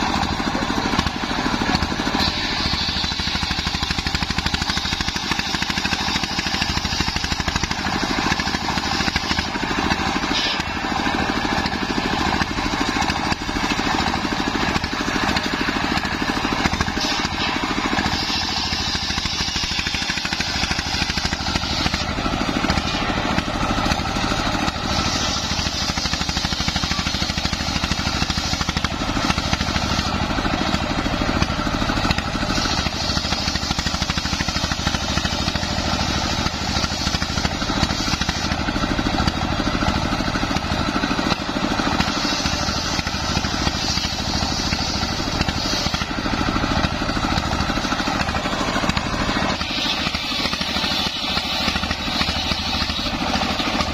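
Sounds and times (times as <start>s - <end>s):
circular saw cutting wood: 0.0s - 53.9s
diesel engine running: 0.0s - 53.9s.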